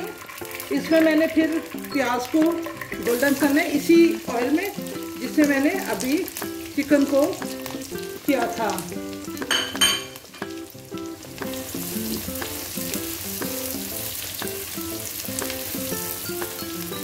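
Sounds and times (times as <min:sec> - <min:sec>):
onions sizzling in oil: 0:00.0 - 0:17.0
soft background music: 0:00.0 - 0:17.0.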